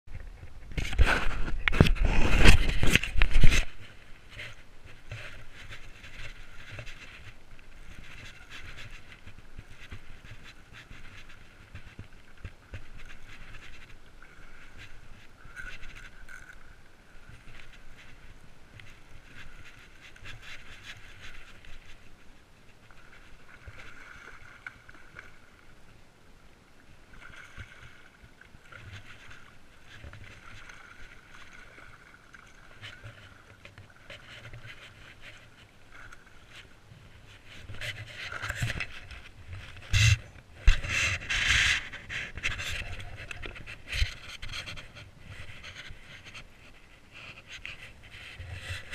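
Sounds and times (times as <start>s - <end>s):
camera rubbing against clothing: 0.2s - 24.0s, 28.6s - 48.9s.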